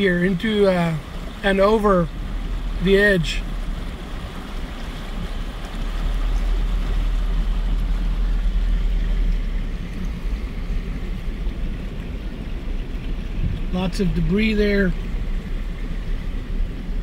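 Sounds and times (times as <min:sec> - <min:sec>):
car rumbling: 0:00.0 - 0:17.0
water washing against tyres: 0:00.0 - 0:17.0.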